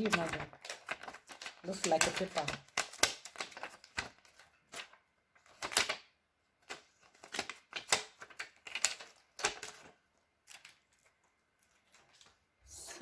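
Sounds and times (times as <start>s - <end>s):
plastic crinkling: 0.0s - 12.5s.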